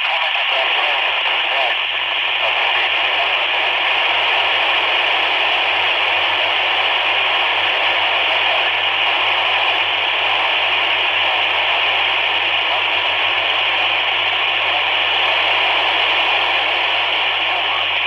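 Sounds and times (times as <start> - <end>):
radio receiver hiss: 0.0 - 18.0.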